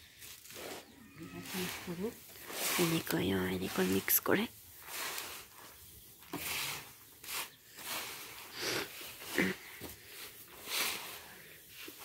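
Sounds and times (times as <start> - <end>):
hands kneading sticky rice: 0.0 - 12.0.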